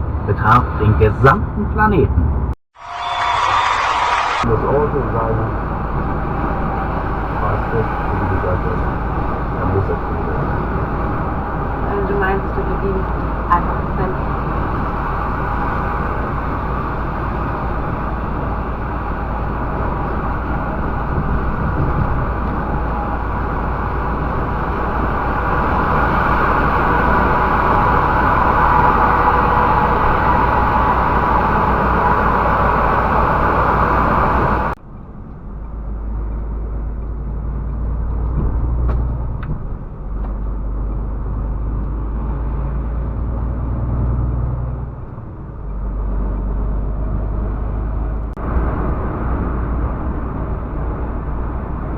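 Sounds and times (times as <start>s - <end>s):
truck engine and road noise: 0.0s - 51.9s.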